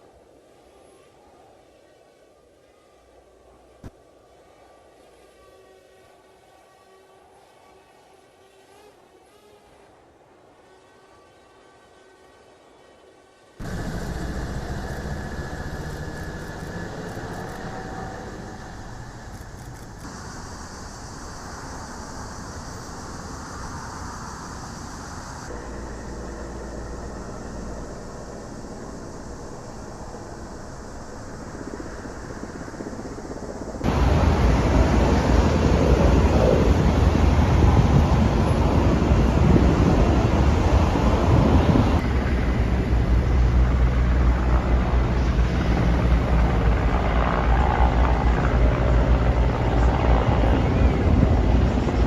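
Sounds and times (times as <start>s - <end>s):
engine noise: 3.5s - 52.0s.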